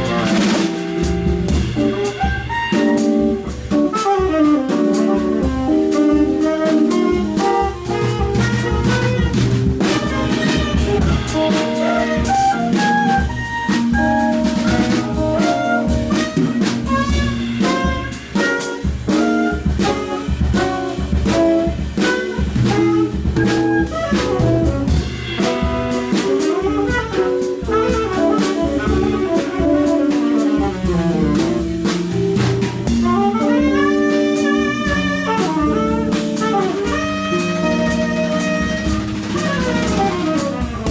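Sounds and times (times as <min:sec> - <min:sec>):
drum kit: 0:00.0 - 0:40.9
tenor saxophone melody: 0:00.0 - 0:40.9.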